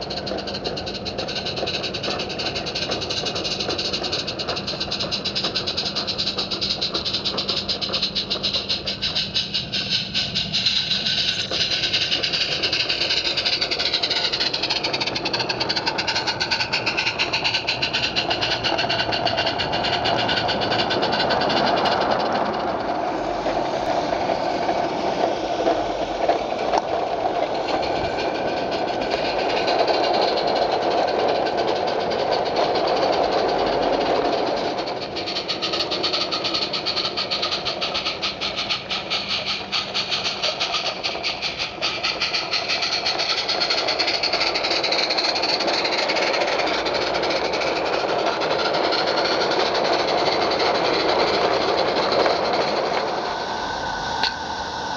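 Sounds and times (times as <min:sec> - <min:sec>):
locomotive exhaust beats: 0:00.0 - 0:54.9
steam hiss: 0:00.0 - 0:54.9.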